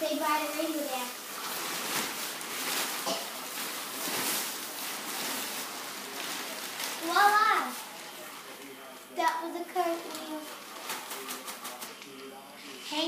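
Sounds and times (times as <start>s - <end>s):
inflatable costume rustling: 0.0s - 11.7s.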